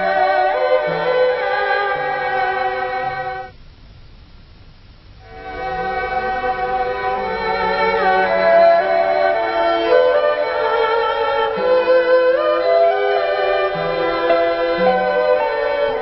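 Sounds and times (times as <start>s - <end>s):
bowed string melody: 0.0s - 3.5s, 5.2s - 16.0s.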